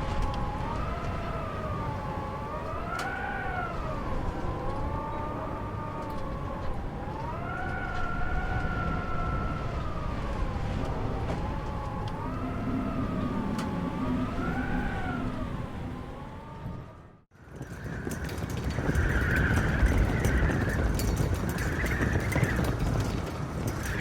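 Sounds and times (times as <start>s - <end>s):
howling wind: 0.0s - 24.0s.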